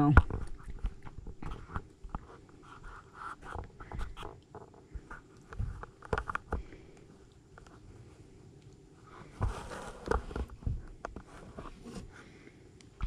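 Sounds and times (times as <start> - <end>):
raccoons scratching and clicking: 0.0 - 12.4.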